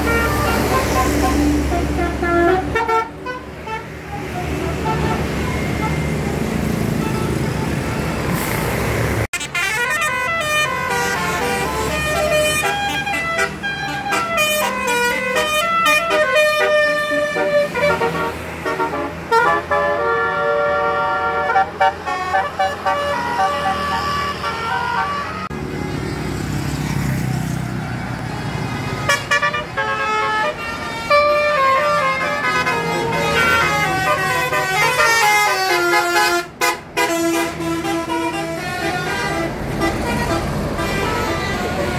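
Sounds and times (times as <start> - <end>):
musical air horn: 0.0 - 6.0, 9.4 - 25.5, 29.0 - 41.9
bus engine rumble: 0.0 - 41.9.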